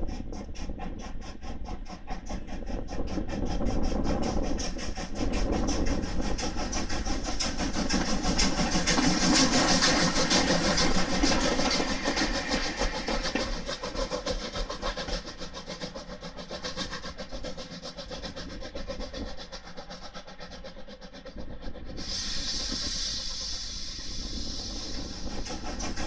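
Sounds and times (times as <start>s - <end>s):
locomotive running: 0.0s - 26.0s
steam hiss: 1.2s - 18.6s, 19.2s - 26.0s.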